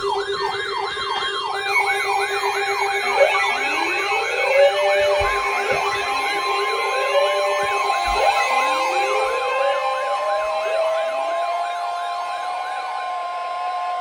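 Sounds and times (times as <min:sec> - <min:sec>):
fast yelp siren: 0:00.0 - 0:14.0
wailing sirens: 0:00.0 - 0:14.0.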